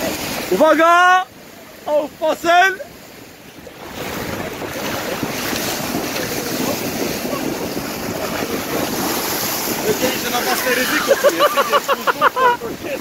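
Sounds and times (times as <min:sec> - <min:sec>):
sea waves breaking on a wall: 0:00.0 - 0:13.0
seawater rushing and splashing: 0:00.0 - 0:13.0.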